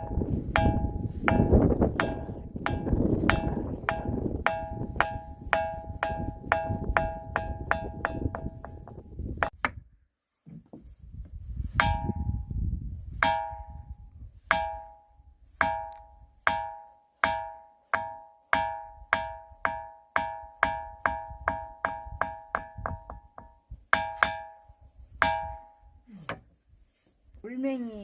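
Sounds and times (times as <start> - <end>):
rock struck ringing: 0.0 - 9.1, 11.8 - 12.5, 13.2 - 26.0.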